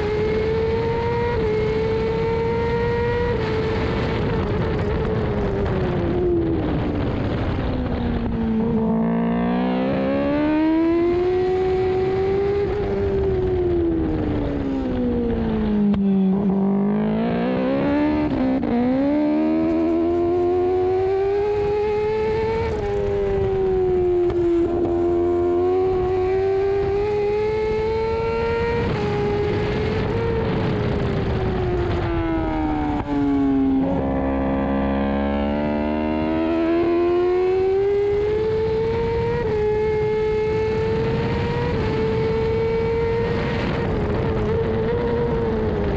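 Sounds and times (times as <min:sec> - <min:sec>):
motorcycle engine at racing revs: 0:00.0 - 0:45.9.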